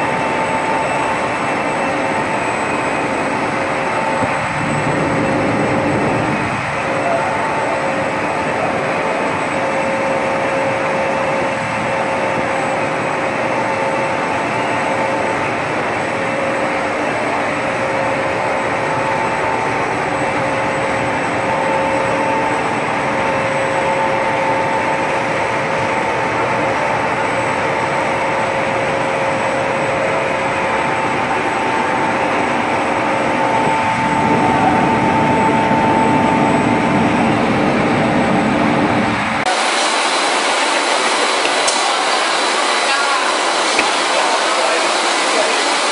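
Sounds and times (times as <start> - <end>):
constant machine whining tones: 0.0 - 45.9
machinery running: 0.0 - 45.9.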